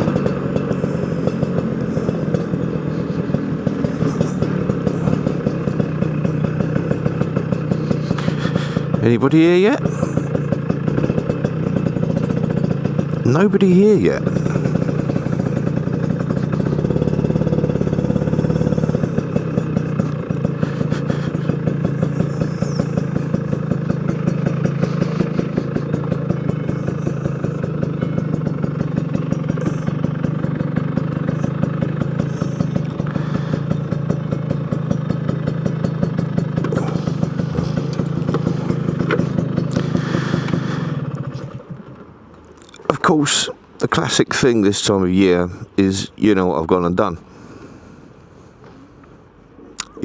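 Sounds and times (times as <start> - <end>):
scooter engine idling: 0.0 - 50.0.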